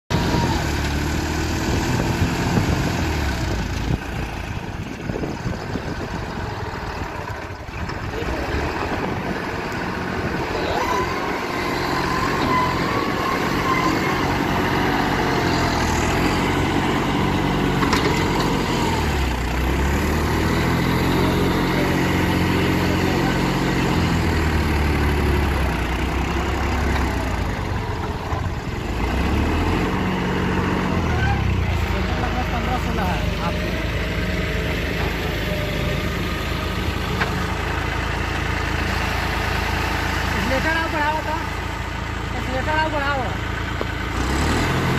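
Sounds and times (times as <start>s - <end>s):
tractor diesel engine under load: 0.1s - 44.9s.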